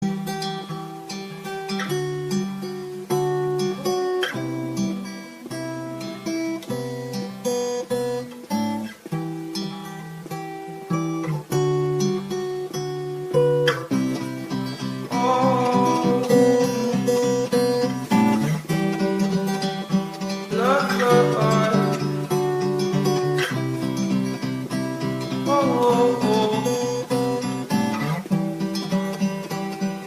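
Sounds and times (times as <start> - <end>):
acoustic guitar picking: 0.0 - 30.0.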